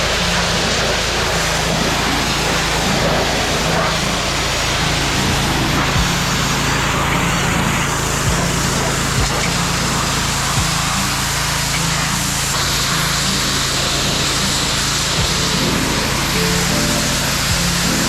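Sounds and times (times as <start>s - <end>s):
high-pressure water spray hissing: 0.0s - 18.0s
pressure washer motor humming: 0.0s - 18.0s.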